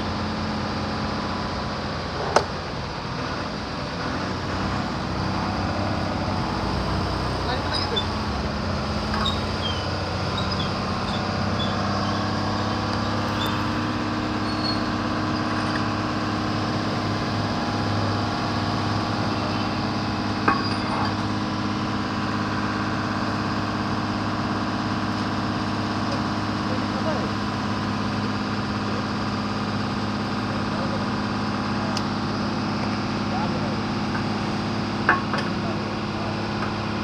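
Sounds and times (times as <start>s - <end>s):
fuel pump motor humming: 0.0s - 37.0s
road traffic: 0.0s - 37.0s.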